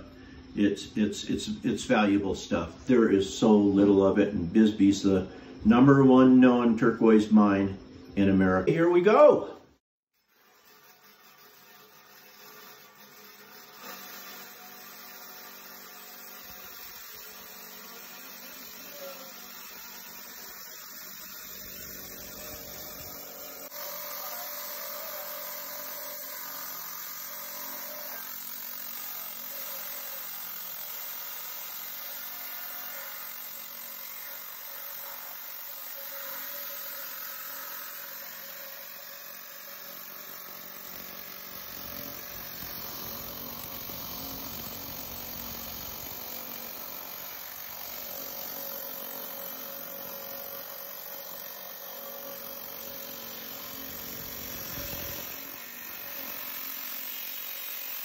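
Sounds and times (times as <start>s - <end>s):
rock saw grinding hum: 10.2s - 58.0s.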